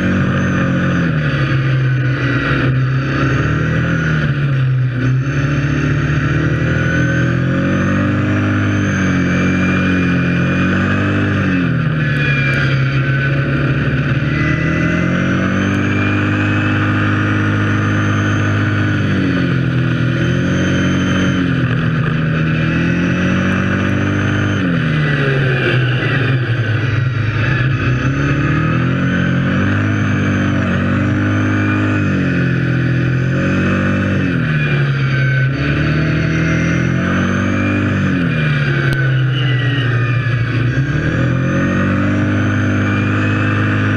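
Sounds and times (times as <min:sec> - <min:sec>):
quad engine running: 0:00.0 - 0:43.9.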